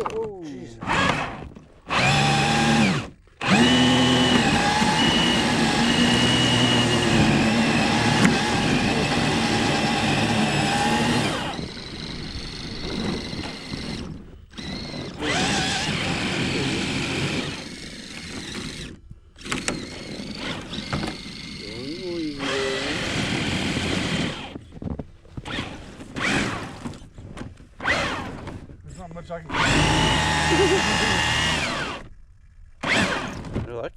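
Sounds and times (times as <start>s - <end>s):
rc car motor and gears whining: 0.8s - 24.7s, 25.4s - 27.1s, 27.8s - 28.7s, 29.5s - 32.2s, 32.8s - 33.6s.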